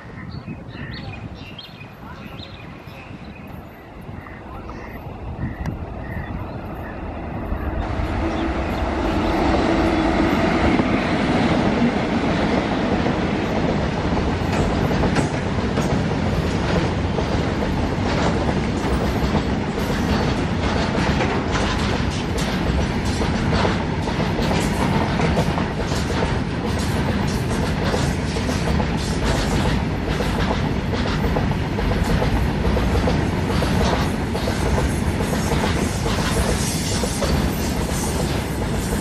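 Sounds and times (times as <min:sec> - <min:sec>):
electric locomotives passing: 0:00.0 - 0:39.0.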